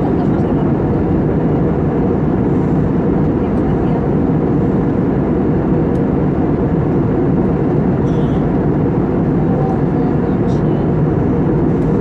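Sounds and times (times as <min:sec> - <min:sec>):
airliner cabin engine rush: 0:00.0 - 0:12.0.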